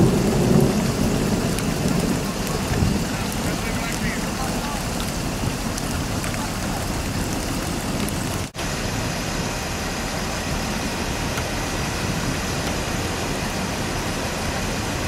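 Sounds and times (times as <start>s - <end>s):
vehicles idling: 0.0s - 15.0s.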